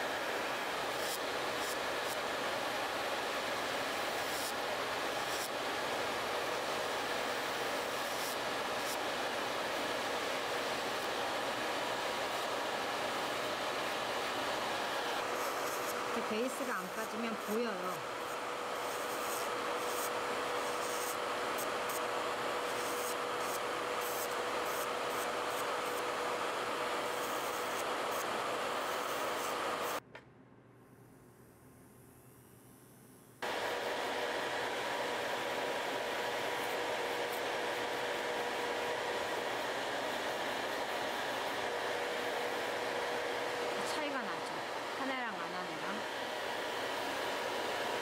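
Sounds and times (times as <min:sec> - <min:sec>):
dust collector fan running: 0:00.0 - 0:30.0, 0:33.4 - 0:48.0
electric nail drill whining: 0:00.0 - 0:30.0, 0:33.4 - 0:48.0
steady hum: 0:00.0 - 0:48.0.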